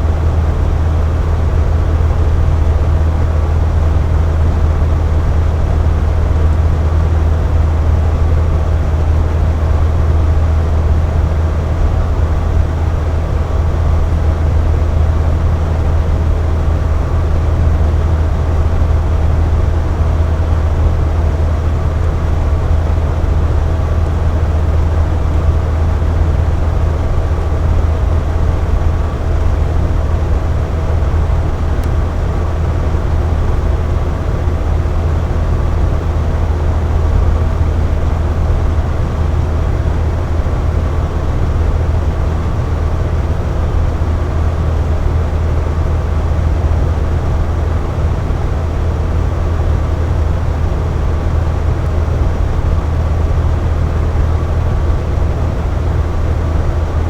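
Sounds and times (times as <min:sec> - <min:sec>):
faint motor hum: 0:00.0 - 0:57.0.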